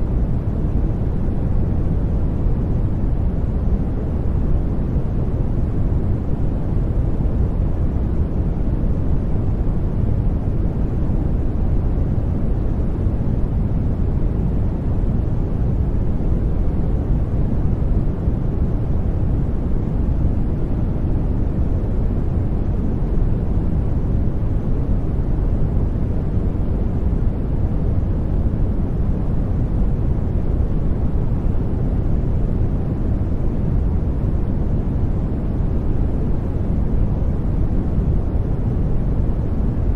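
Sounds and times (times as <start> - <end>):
deep rumbling white noise: 0.0 - 39.9.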